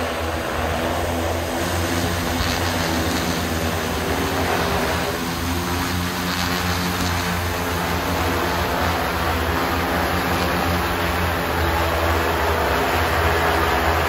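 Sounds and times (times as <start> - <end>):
drone rotors buzzing: 0.0 - 14.0.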